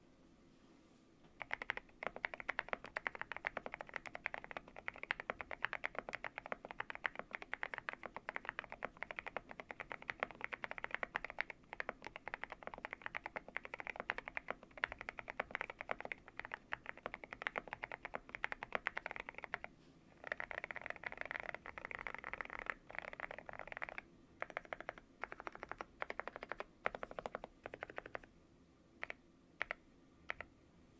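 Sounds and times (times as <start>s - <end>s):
mechanical keyboard typing: 1.4s - 28.3s, 29.0s - 30.5s.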